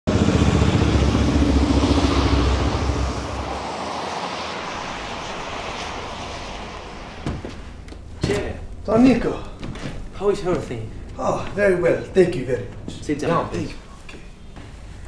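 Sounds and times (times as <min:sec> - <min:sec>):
vehicle engine rumbling: 0:00.1 - 0:13.2
street traffic noise: 0:00.1 - 0:15.0.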